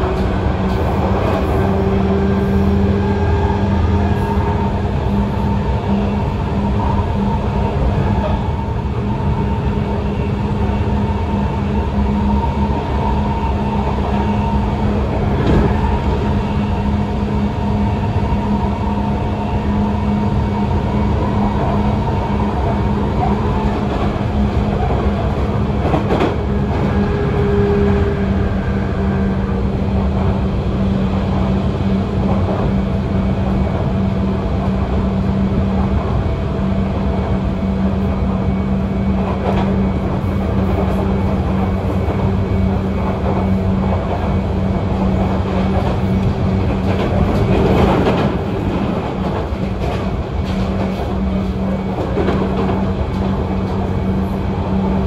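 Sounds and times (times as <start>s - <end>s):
rail joint clacks: 0.0s - 17.2s, 21.2s - 30.4s, 31.0s - 55.0s
train wheels rumbling on rails: 0.0s - 55.0s.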